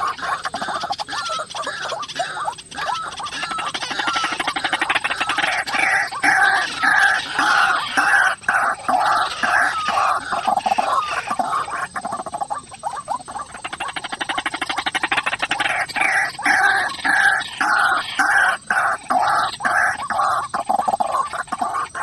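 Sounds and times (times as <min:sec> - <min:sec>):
waterhen harsh calls: 0:00.0 - 0:22.0.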